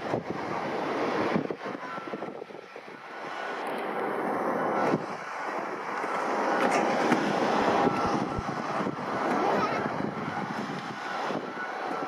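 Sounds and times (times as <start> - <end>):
airliner engines rushing: 0.0 - 12.0
engine high whine: 0.0 - 12.0.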